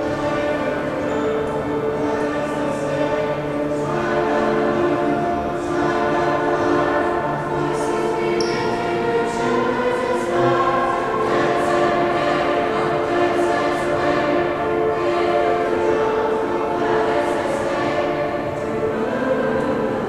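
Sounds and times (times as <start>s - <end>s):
mixed choir singing held chords: 0.0s - 20.0s.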